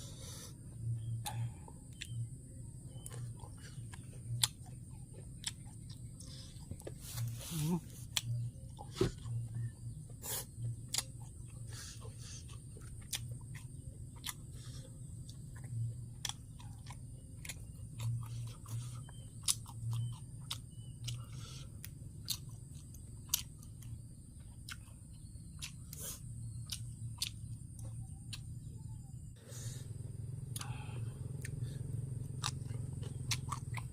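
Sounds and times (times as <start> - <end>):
steady low hum: 0.0 - 33.9
person chewing and crunching: 0.8 - 28.6, 30.6 - 33.9.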